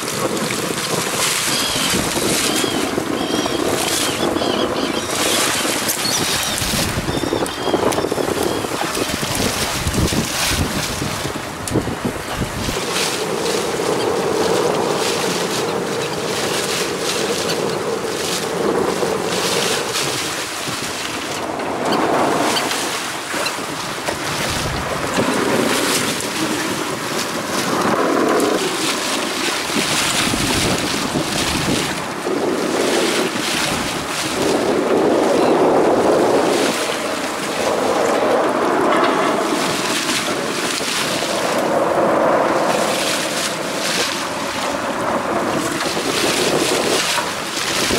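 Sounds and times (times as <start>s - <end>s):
sea washing against boat hull: 0.0s - 47.9s
wind buffeting microphone: 0.0s - 47.9s.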